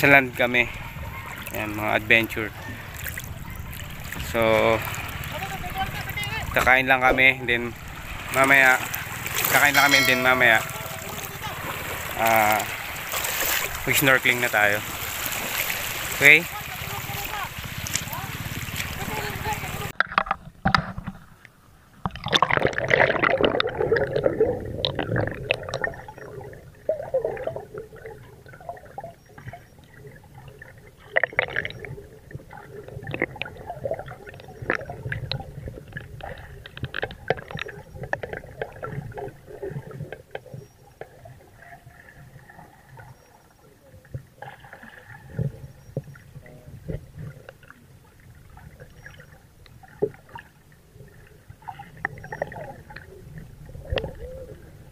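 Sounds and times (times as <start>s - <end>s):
low underwater rumbles: 0.0s - 54.9s
water sloshing and gurgling: 0.0s - 54.9s.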